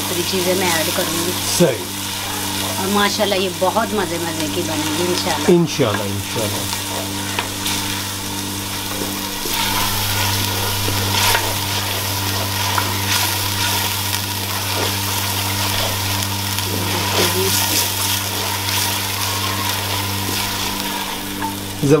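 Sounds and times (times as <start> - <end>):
wooden spoon scraping a pot: 0.0 - 21.8
onions sizzling in oil: 0.0 - 22.0
steady low hum: 0.0 - 22.0.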